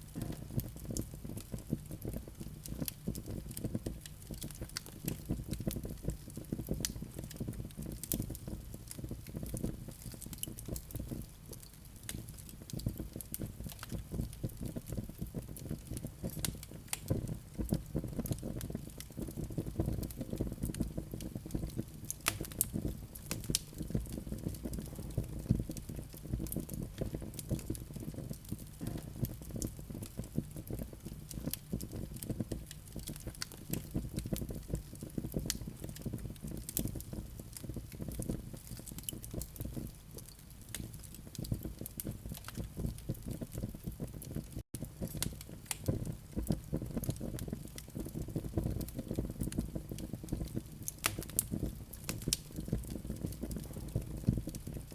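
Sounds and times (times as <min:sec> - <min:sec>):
fire crackling and popping: 0:00.0 - 0:54.9
low fire rumble: 0:00.0 - 0:54.9.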